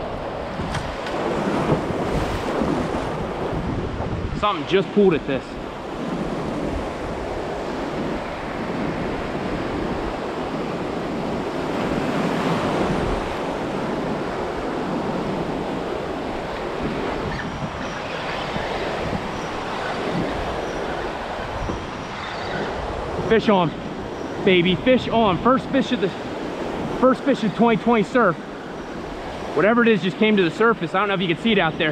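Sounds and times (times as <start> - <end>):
ocean surf breaking on beach: 0.0 - 31.9.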